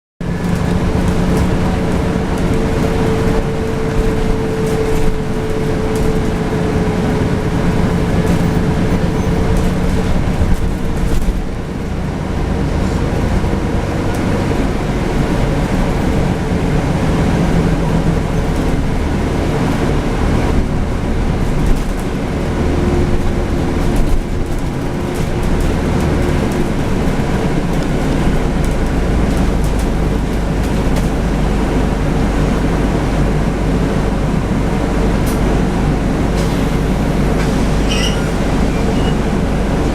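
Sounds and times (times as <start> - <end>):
bus diesel engine running: 0.2 - 39.9.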